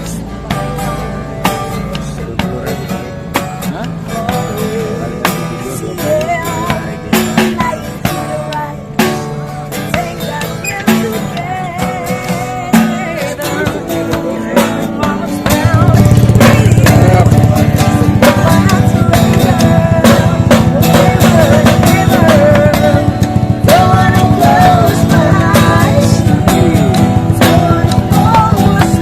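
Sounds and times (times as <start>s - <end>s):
plucked guitar: 0.0s - 29.0s.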